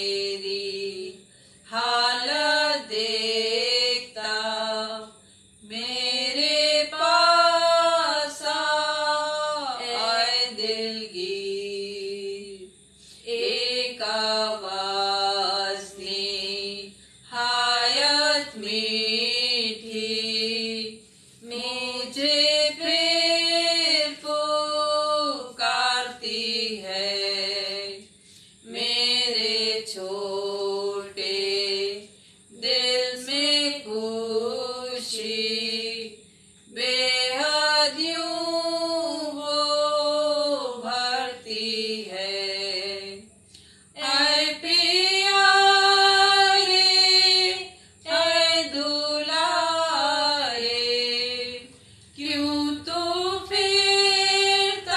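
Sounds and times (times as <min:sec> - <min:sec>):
two women singing unaccompanied: 0:00.0 - 0:54.9.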